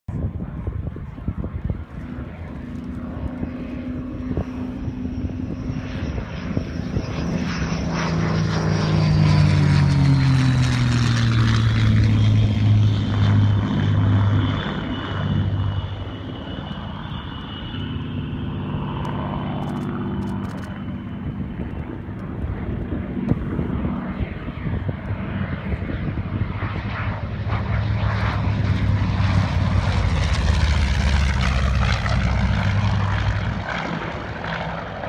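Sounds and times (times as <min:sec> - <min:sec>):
propeller plane flyby: 0:00.1 - 0:35.0.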